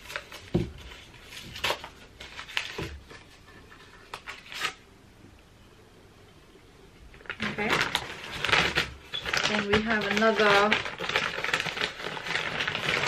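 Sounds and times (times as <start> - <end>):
paper packaging crinkling: 0.0 - 4.8, 7.1 - 13.0.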